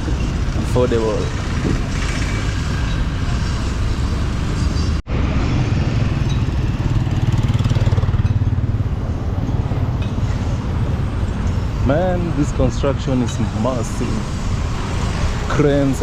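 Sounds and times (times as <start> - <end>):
road and traffic noise: 0.0 - 16.0
vehicle engine humming: 0.0 - 16.0.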